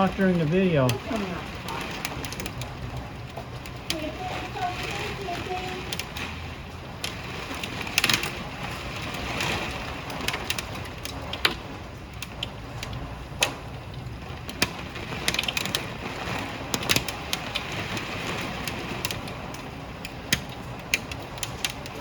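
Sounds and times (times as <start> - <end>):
hailstones striking hard surfaces: 0.0 - 22.0
steady hiss of rain: 0.0 - 22.0.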